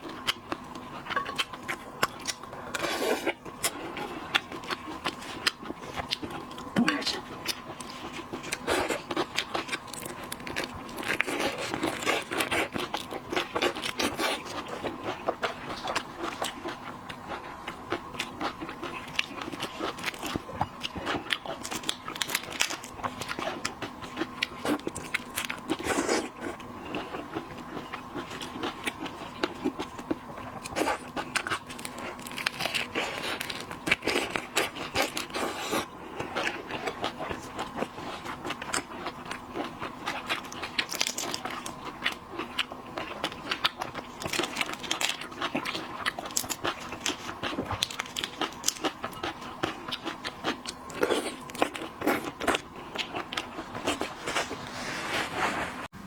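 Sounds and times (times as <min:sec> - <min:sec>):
chewing and crunching: 0:00.0 - 0:54.9
faint steady hum: 0:00.0 - 0:56.0.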